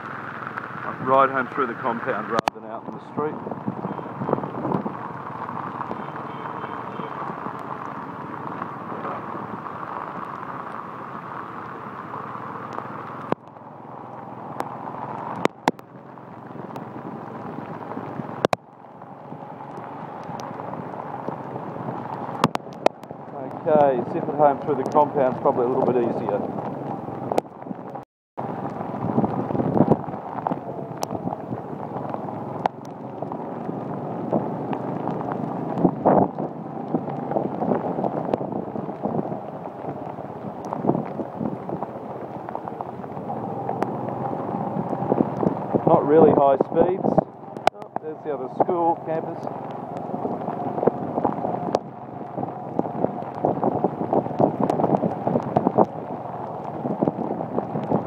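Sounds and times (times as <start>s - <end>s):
tyres hissing on wet road: 0.0s - 27.3s, 28.4s - 58.0s
rain and wind on microphone: 0.0s - 58.0s.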